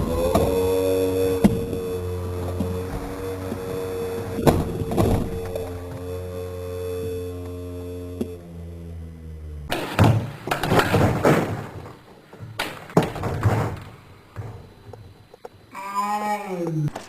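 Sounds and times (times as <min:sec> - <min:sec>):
knocks and thumps: 0:00.0 - 0:07.6, 0:09.6 - 0:15.7
steady low hum: 0:00.0 - 0:17.0.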